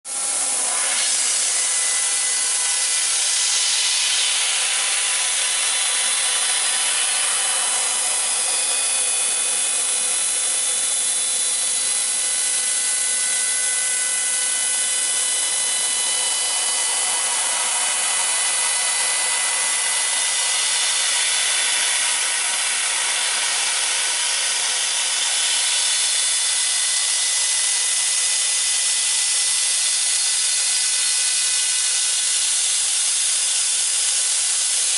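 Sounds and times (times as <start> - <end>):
laser cutter gas hiss: 0.1 - 34.9.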